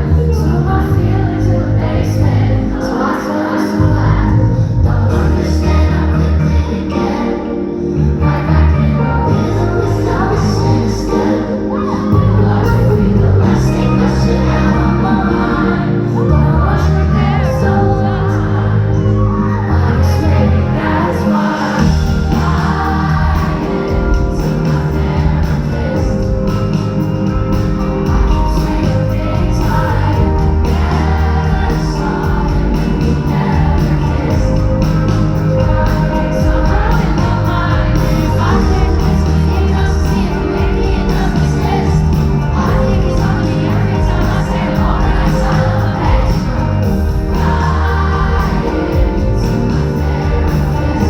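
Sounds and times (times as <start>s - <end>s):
live pop band playing: 0.0s - 51.0s
woman singing lead: 0.0s - 51.0s.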